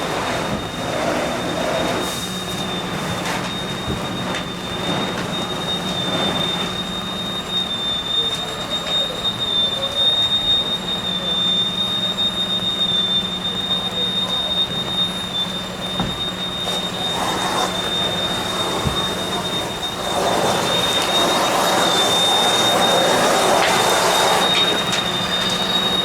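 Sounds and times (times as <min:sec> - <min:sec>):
high-pitched machine whine: 0:00.0 - 0:26.0.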